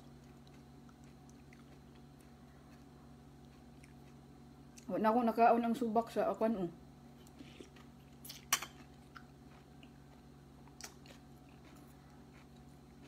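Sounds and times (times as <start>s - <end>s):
person chewing: 0.0s - 4.9s, 7.2s - 13.0s.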